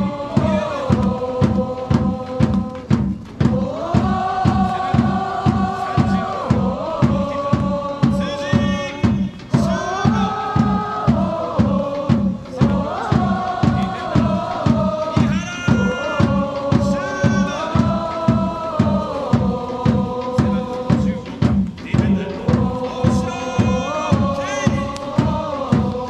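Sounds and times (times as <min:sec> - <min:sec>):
bass drum beat: 0:00.0 - 0:26.0
supporters chanting in unison: 0:00.0 - 0:26.0.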